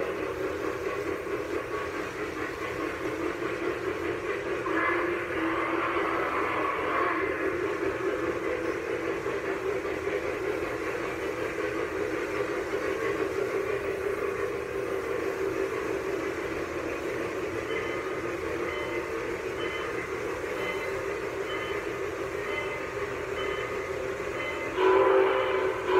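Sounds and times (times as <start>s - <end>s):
model train whirring on track: 0.0s - 25.9s.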